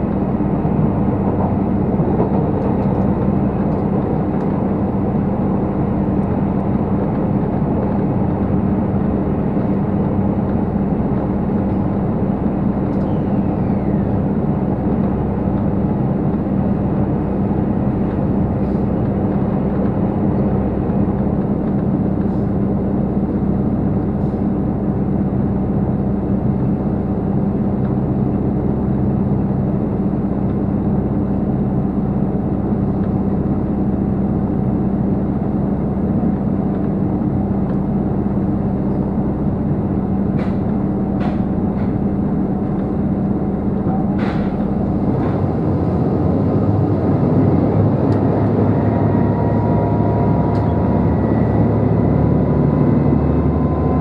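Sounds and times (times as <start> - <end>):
train engine and wheels drone: 0.0 - 54.0.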